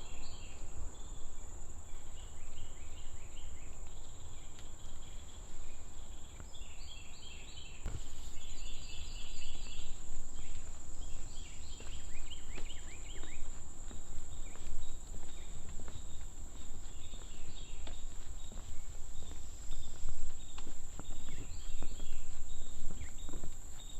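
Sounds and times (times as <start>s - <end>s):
birds chirping: 0.0s - 23.9s
insects droning: 0.0s - 23.9s.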